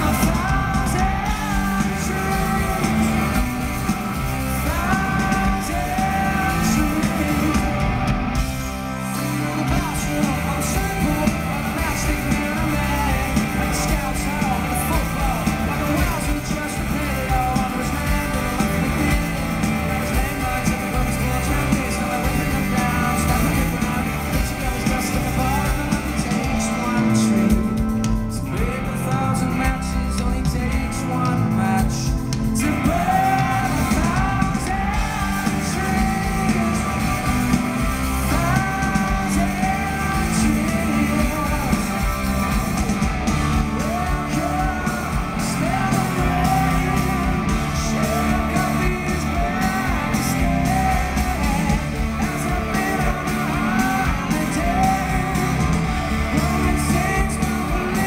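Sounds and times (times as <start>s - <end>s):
live rock band playing: 0.0s - 58.0s
man singing lead vocal: 0.0s - 58.0s.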